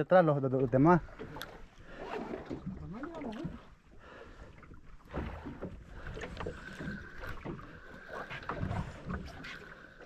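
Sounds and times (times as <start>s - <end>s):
water washing around boat: 0.0s - 10.0s
wind: 0.0s - 10.0s.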